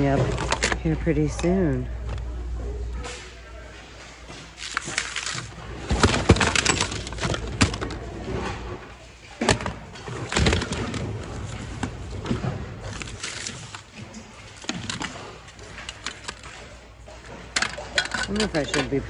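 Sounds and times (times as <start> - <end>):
plastic and metal items clattering: 0.0 - 2.3, 3.0 - 19.0
rustling of cloth and plastic: 0.0 - 19.0.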